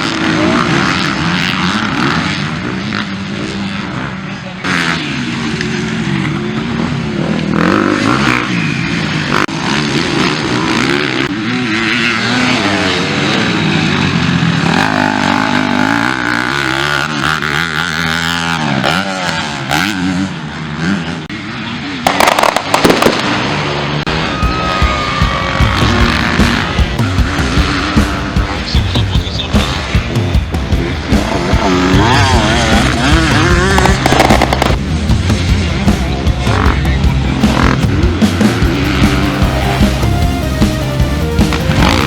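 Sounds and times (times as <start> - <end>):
motocross bikes revving: 0.0 - 42.0.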